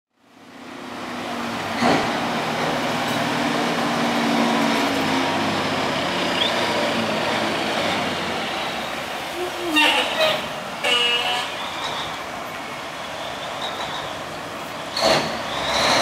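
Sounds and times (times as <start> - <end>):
trucks approaching: 0.2 - 16.0
vehicle engines running: 0.2 - 16.0.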